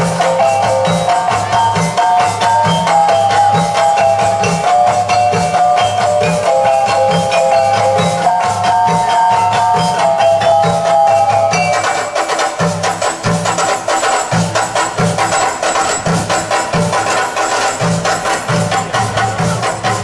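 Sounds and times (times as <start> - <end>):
rattle and wood block percussion: 0.0 - 20.0.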